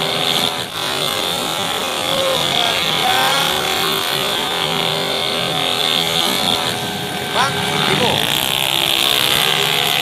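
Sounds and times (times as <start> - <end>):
crowd din: 0.0 - 10.0
motorcycle engines revving: 0.0 - 10.0.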